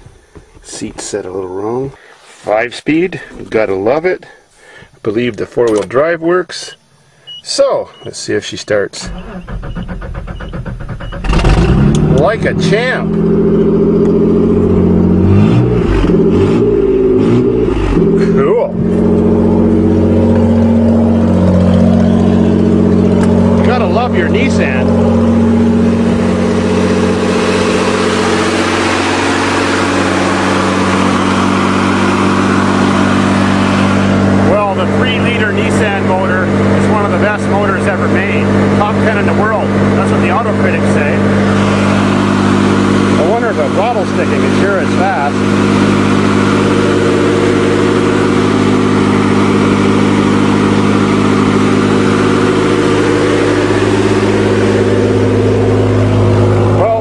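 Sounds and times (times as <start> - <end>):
truck engine idling: 6.8 - 17.2, 17.8 - 57.0.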